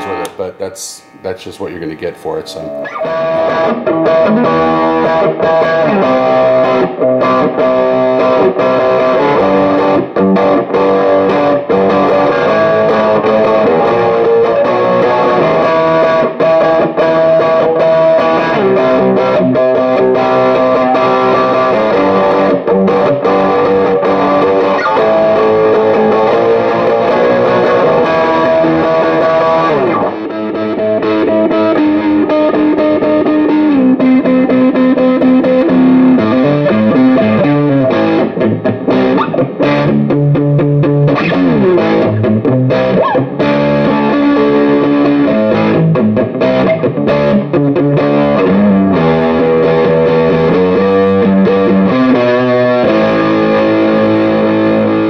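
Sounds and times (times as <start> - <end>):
distorted electric guitar: 0.0 - 55.0.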